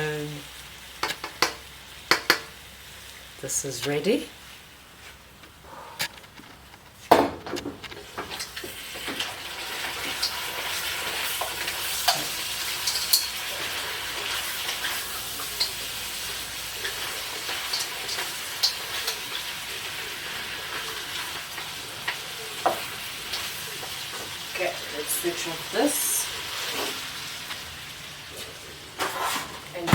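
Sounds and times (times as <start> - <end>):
food sizzling in a pan: 0.0 - 5.3, 8.0 - 29.9.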